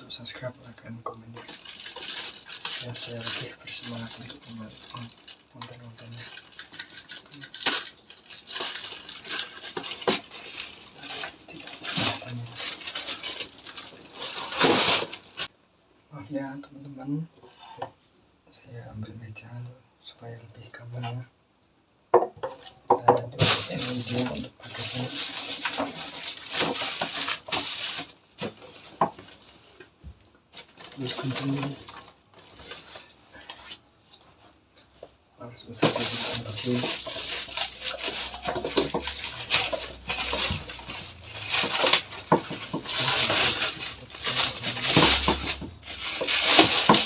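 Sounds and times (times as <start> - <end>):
rustling and scraping: 0.6 - 15.5, 22.4 - 47.0.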